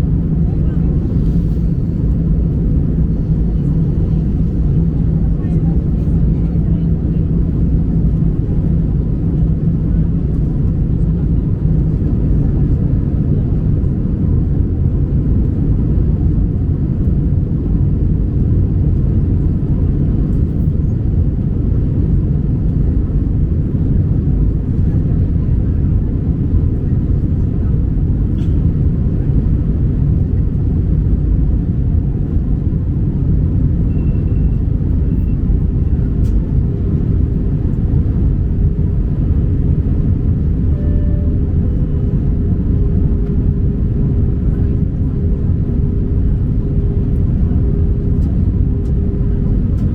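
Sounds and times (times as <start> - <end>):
airplane cabin rumble: 0.0 - 49.9.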